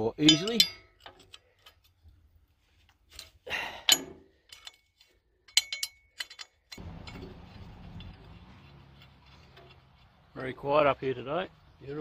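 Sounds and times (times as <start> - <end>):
metal tools clinking and knocking: 0.0 - 2.1, 2.9 - 10.7.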